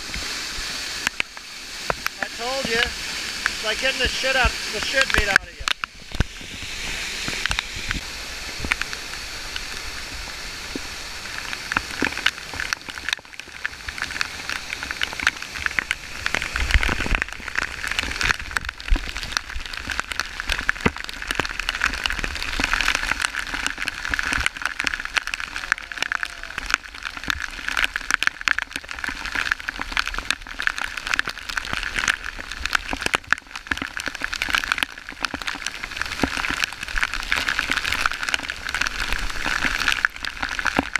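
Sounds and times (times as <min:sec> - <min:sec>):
waterfall pouring: 0:00.0 - 0:40.9.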